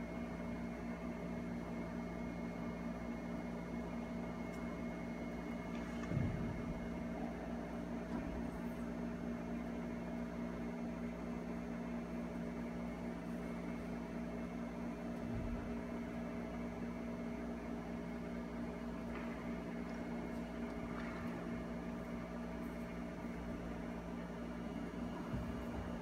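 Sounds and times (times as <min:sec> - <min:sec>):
room hum with low tones: 0:00.0 - 0:26.0.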